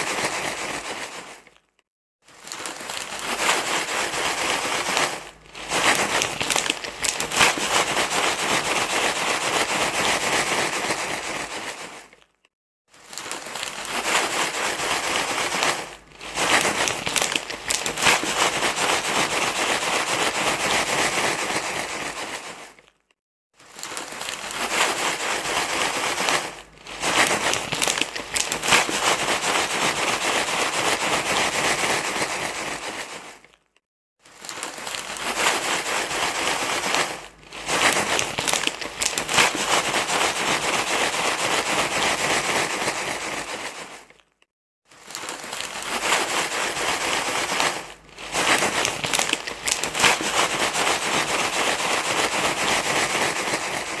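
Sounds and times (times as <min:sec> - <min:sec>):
crinkling and rustling: 0:00.0 - 0:54.0.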